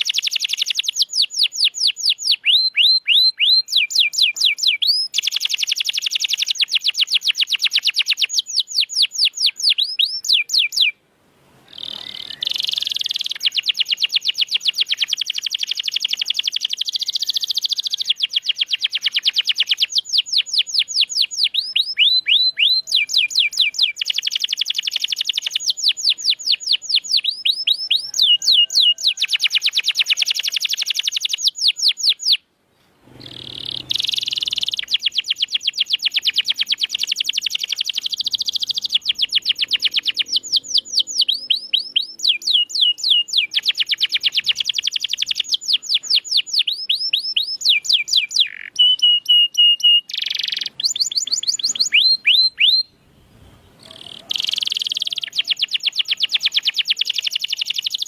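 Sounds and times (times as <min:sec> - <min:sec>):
canary singing trills: 0:00.0 - 0:11.0, 0:11.7 - 0:32.4, 0:33.1 - 0:58.0.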